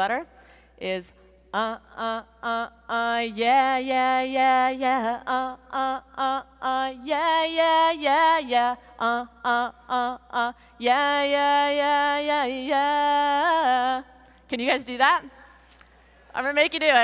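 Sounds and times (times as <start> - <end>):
woman singing unaccompanied: 0.8 - 15.4.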